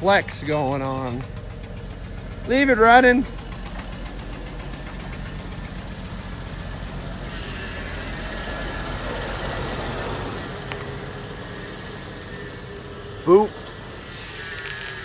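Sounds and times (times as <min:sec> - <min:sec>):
pickup truck engine at low speed: 0:00.0 - 0:15.0.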